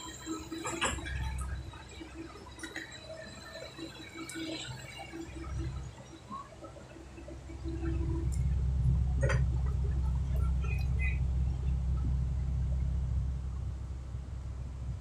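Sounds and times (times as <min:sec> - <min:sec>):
low engine rumble: 0:00.0 - 0:03.0, 0:05.1 - 0:15.0.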